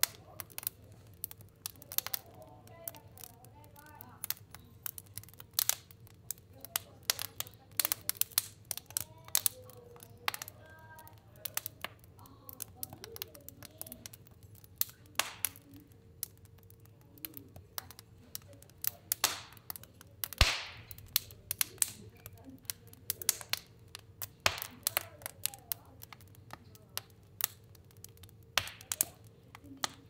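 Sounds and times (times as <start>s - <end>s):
fire crackling and popping: 0.0s - 30.0s
stove fire low rumble: 0.0s - 30.0s.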